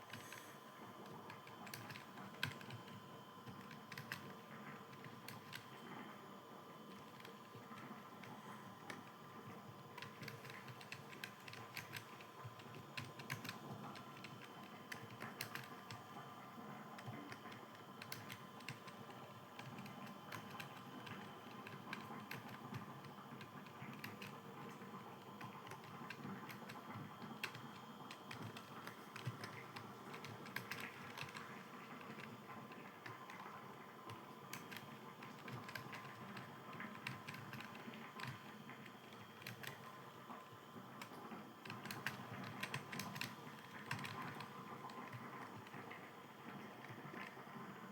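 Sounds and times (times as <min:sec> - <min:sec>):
faint hum: 0:00.0 - 0:47.9
typing on computer keyboard: 0:00.1 - 0:05.9, 0:06.8 - 0:47.4.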